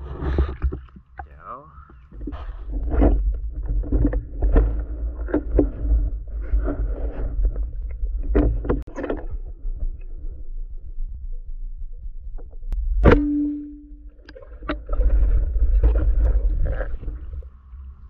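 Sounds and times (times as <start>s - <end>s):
underwater water rumble: 0.0s - 18.0s.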